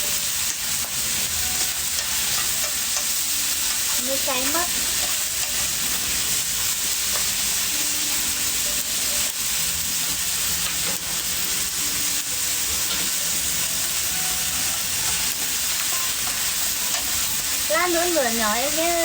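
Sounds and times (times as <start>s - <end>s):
sizzling over wood fire: 0.0s - 19.0s.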